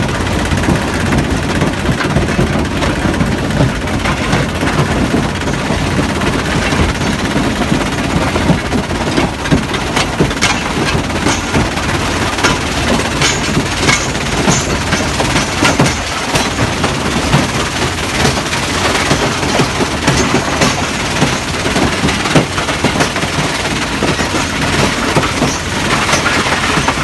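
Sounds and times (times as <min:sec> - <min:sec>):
crusher diesel rumble: 0:00.0 - 0:27.0
stones rattling and knocking: 0:00.4 - 0:27.0.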